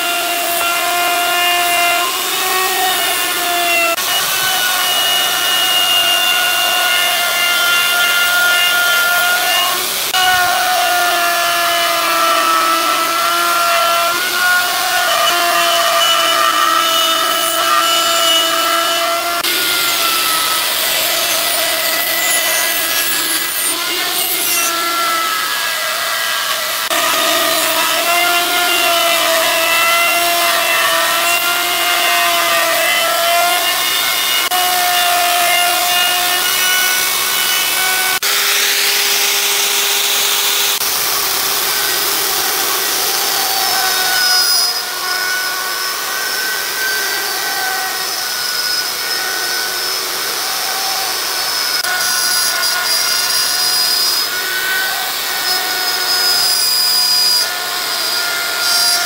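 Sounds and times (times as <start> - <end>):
power tool motor whining: 0.0 - 59.0.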